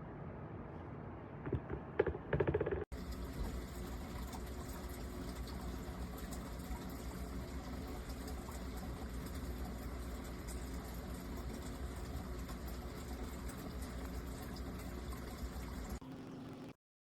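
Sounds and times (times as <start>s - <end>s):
humidifier humming and hissing: 0.0s - 16.7s.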